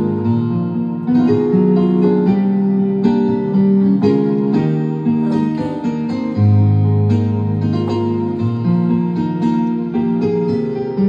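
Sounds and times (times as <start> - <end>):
keyboard piano-like chords: 0.0 - 11.0.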